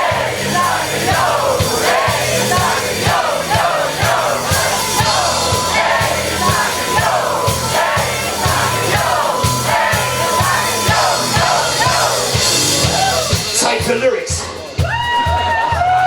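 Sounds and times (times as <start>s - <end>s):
crowd chanting and shouting: 0.0s - 16.0s
rap backing track with thumping beat: 0.0s - 16.0s.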